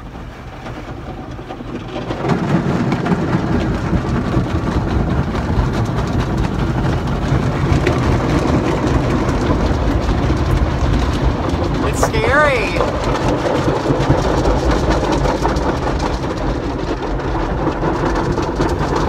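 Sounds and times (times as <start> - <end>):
water jets drumming on car roof: 0.0 - 19.0.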